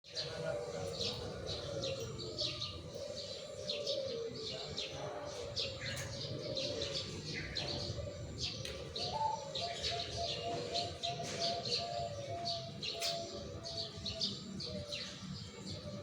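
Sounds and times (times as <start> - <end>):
small birds chirping: 0.0 - 16.0
doves cooing: 0.1 - 16.0.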